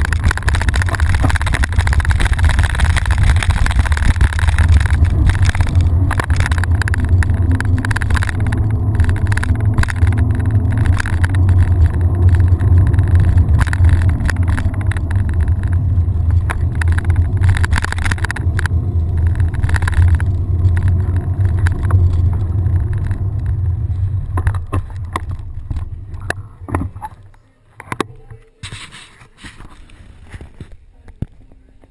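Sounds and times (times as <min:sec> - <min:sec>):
wind rumbling on microphone: 0:00.0 - 0:28.4
bike knocks and rattles: 0:00.0 - 0:28.8.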